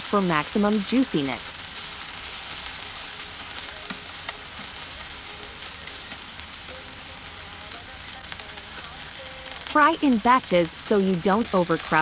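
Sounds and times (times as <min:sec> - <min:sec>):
steak sizzling in oil: 0:00.0 - 0:12.0.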